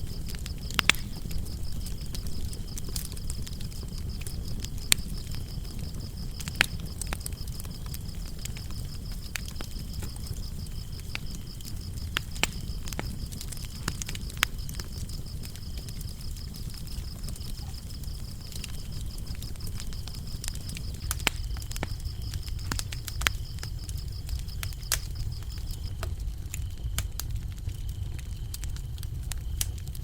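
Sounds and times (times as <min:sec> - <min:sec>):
crickets chirping: 0:00.0 - 0:26.9
wood fire crackling and popping: 0:00.0 - 0:30.0.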